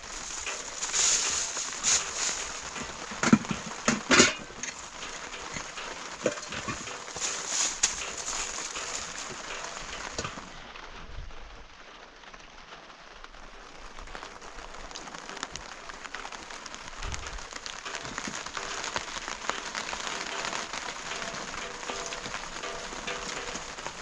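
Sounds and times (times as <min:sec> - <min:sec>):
rain falling on a surface: 0:00.0 - 0:24.0.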